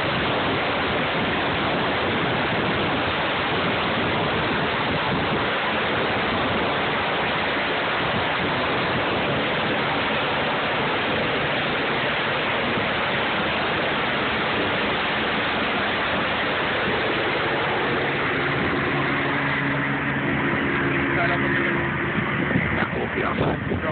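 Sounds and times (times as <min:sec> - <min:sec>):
helicopter taking off: 0:00.0 - 0:23.9.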